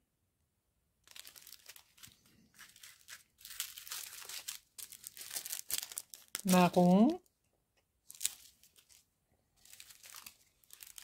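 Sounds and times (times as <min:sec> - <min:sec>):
plastic bags crinkling: 0:01.0 - 0:07.3, 0:08.0 - 0:11.0.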